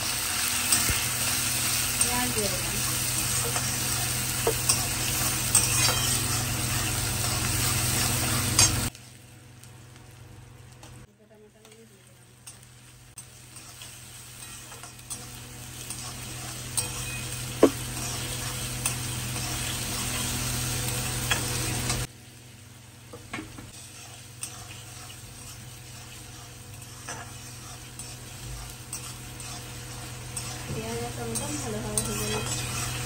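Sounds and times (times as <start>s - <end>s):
vegetables sizzling in hot oil: 0.0s - 33.0s.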